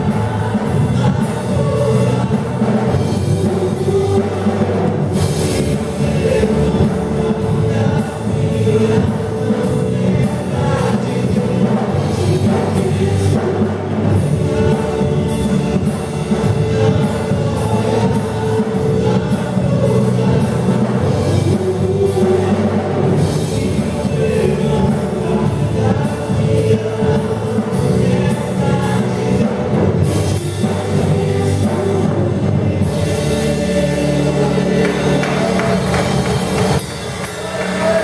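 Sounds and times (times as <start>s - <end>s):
drums: 0.0s - 38.0s
group of singers: 0.0s - 38.0s.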